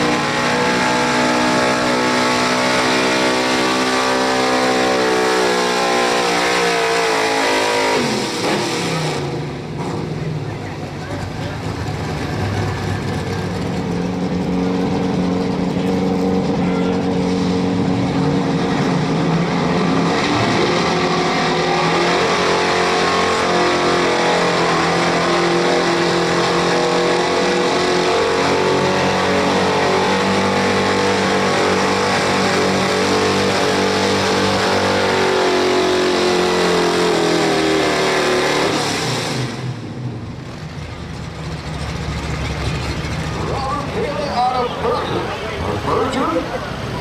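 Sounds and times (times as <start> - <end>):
truck engine at full throttle: 0.0 - 47.0.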